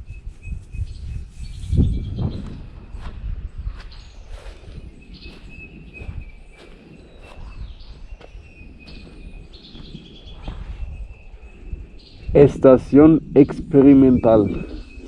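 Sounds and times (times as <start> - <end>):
bird chirps: 0.0 - 15.0
wind rumble on microphone: 0.0 - 15.0.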